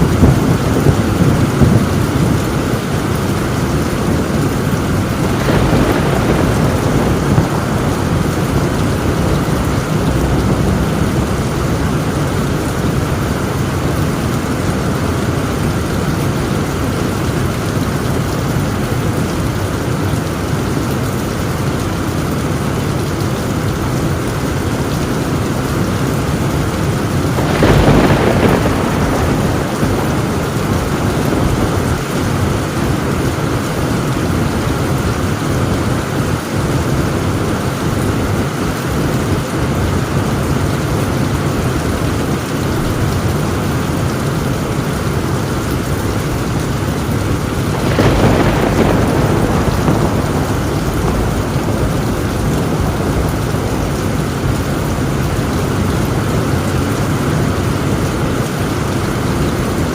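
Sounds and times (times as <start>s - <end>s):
thunderclap: 0.0s - 18.4s, 24.7s - 59.9s
low thunder rumble: 0.0s - 59.9s
rain drumming on a tin roof: 0.0s - 59.9s.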